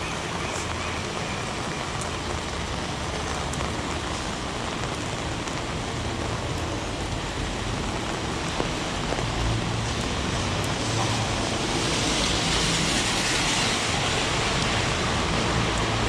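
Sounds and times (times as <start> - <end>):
heavy rain on pavement: 0.0 - 16.0
low rumble of traffic: 0.0 - 16.0.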